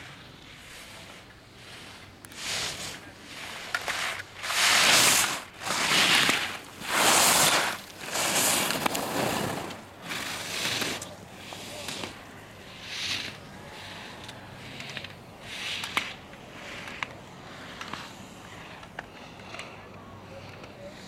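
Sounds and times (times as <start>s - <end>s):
skis scraping on hard snow: 0.0s - 18.9s.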